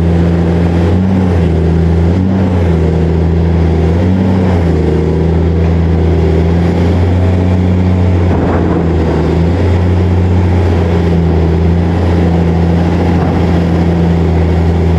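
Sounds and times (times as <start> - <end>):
excavator diesel engine running: 0.0 - 14.9.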